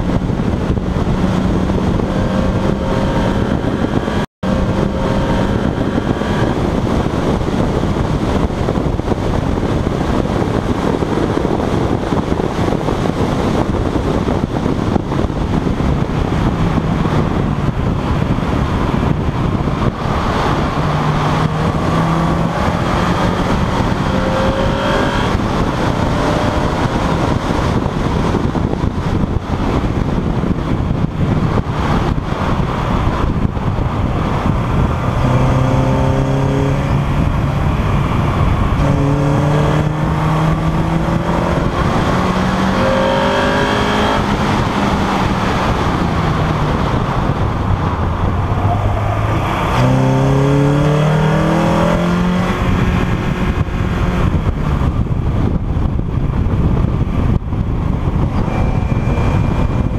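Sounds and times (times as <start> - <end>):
race car engine revving: 0.0 - 56.1
road and wind noise: 0.0 - 59.9.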